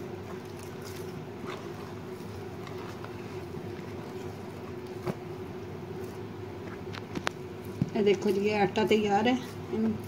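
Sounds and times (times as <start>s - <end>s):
hands kneading dough: 0.0s - 10.0s
steady background hum: 0.0s - 10.0s.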